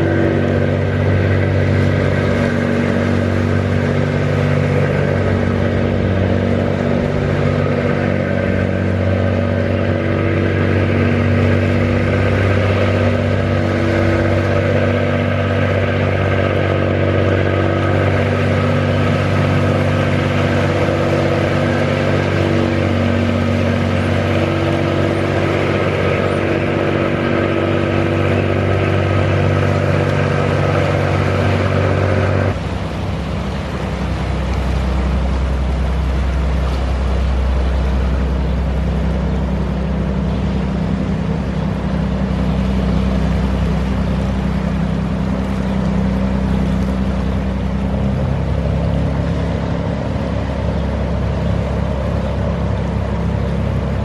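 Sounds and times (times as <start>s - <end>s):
boat diesel engines humming: 0.0s - 54.0s.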